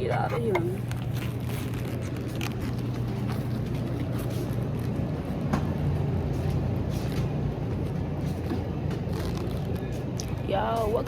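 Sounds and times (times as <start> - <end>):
traffic hum: 0.0 - 11.0.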